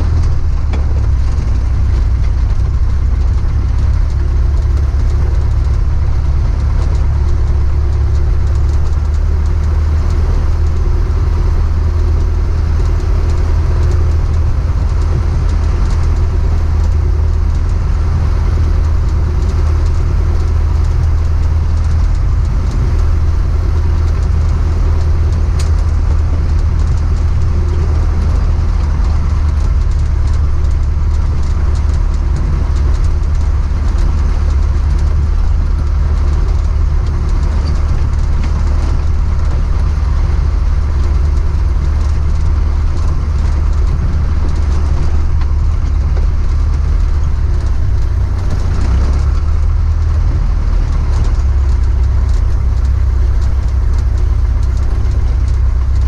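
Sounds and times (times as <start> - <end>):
propeller aircraft engine droning: 0.0 - 56.0.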